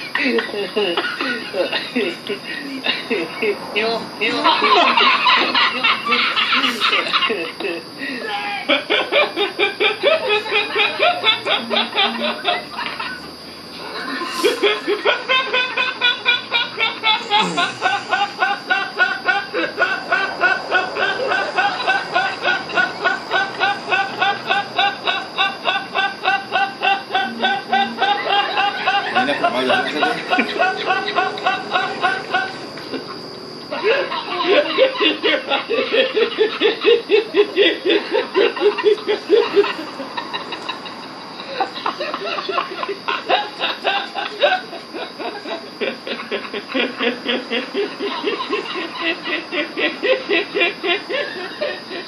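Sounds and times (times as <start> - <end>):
man laughing high-pitched: 0.0 - 52.0.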